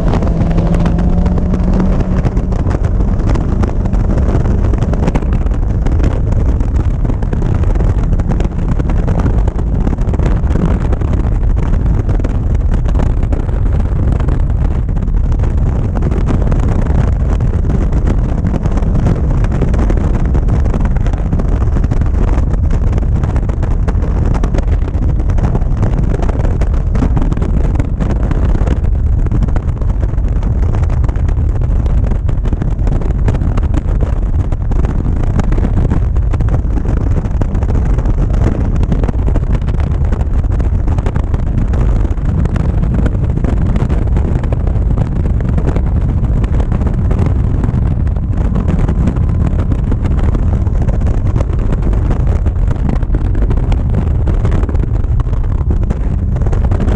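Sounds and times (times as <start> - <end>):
race car engine running hard: 0.0 - 56.9
wind buffeting microphone: 0.0 - 56.9.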